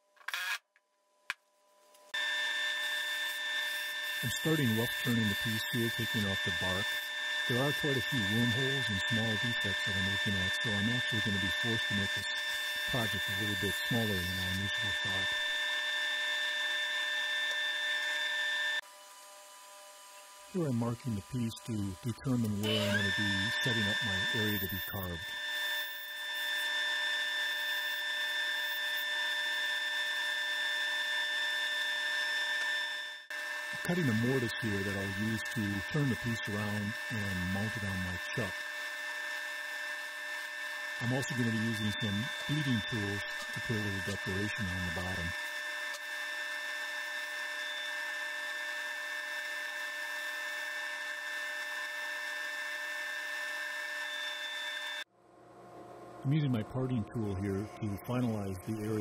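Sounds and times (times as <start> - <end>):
wood lathe whine: 2.1 - 55.1
turning tool shaving hiss: 2.2 - 19.3, 20.0 - 32.8, 33.5 - 55.1.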